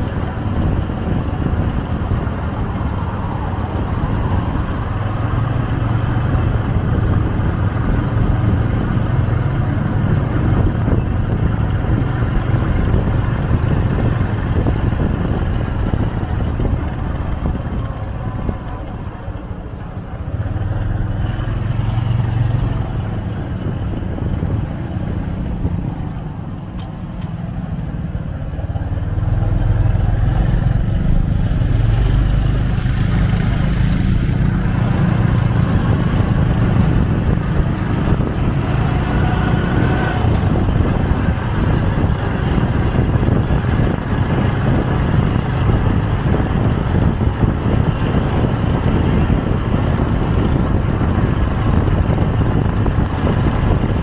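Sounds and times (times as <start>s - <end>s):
motorcycle engine running: 0.0s - 54.0s
passing traffic: 0.0s - 54.0s
road and wind noise: 0.0s - 54.0s.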